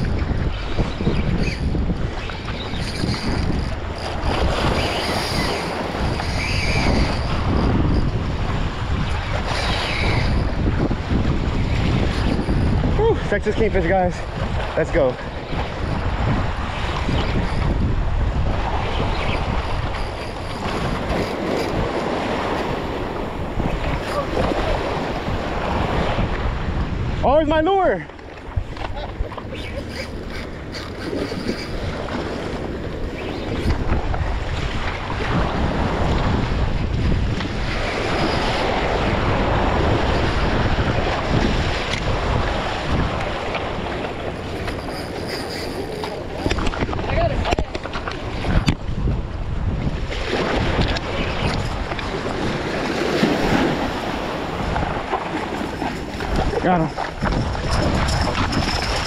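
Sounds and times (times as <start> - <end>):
surf washing against jetty: 0.0 - 59.0
wind rumbling on microphone: 0.0 - 59.0.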